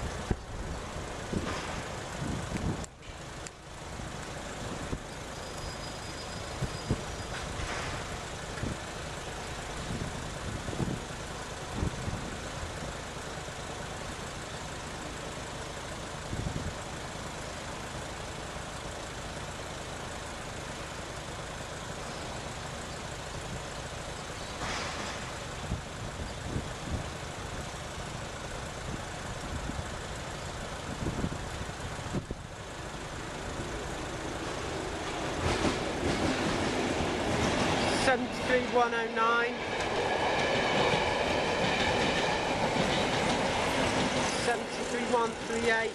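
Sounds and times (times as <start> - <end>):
approaching train: 0.0 - 45.9.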